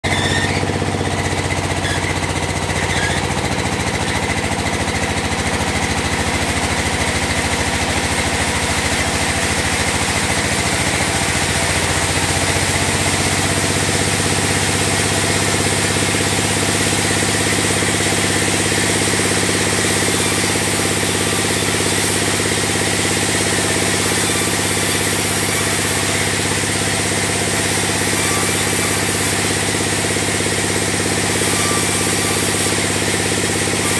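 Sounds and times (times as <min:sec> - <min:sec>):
band sawmill humming: 0:00.0 - 0:33.9.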